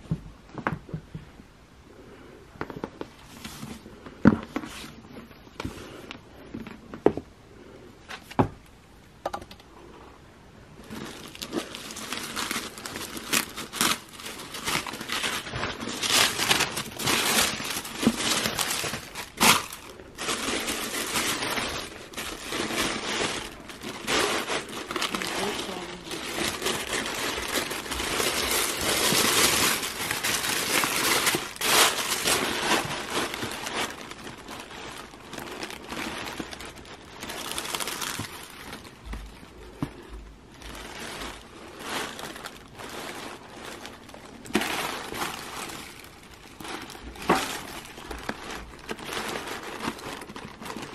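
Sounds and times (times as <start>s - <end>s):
tissue paper rustling: 3.0s - 6.1s, 10.8s - 50.9s.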